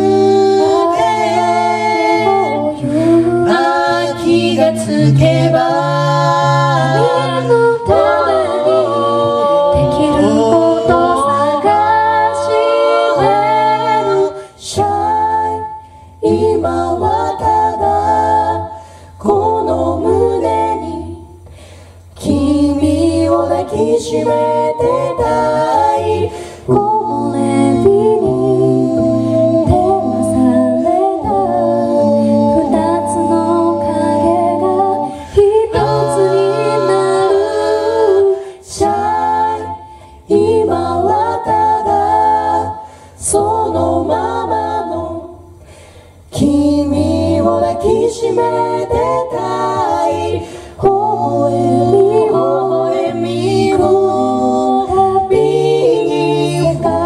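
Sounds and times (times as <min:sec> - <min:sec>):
a cappella group singing in harmony: 0:00.0 - 0:57.0.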